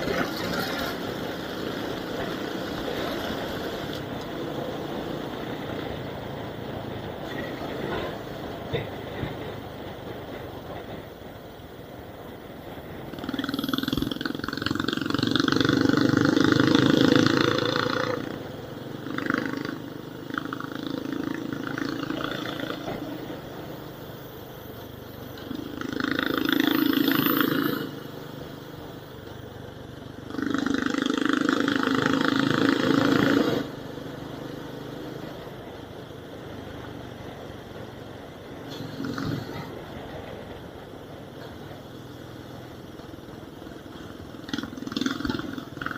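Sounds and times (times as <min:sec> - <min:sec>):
vehicle engine and road noise: 0:00.0 - 0:45.9.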